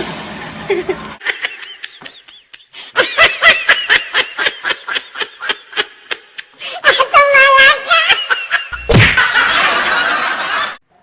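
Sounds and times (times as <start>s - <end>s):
high-pitched laughter: 0.7s - 10.8s.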